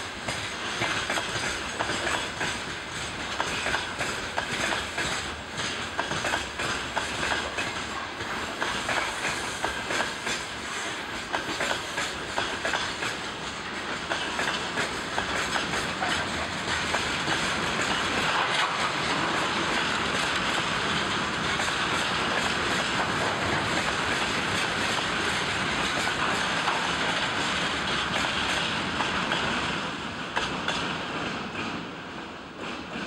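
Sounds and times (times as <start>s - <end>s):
train rolling noise: 0.0s - 33.0s
train wheels clicking over joints: 0.0s - 33.0s.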